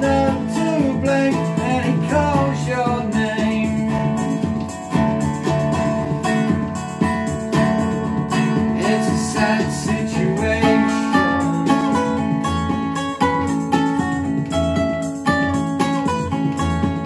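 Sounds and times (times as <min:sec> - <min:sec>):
resonator guitar plucked and strummed: 0:00.0 - 0:17.0.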